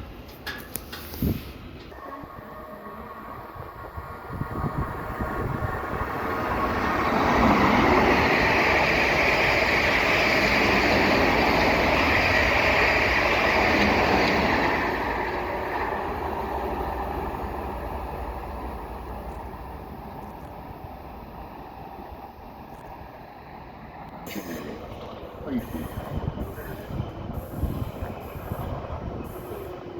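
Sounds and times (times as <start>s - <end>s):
train passing: 0.0s - 29.9s.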